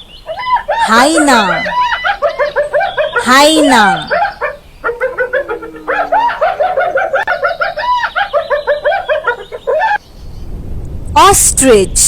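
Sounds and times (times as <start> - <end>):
hyena laughing: 0.3 - 10.0.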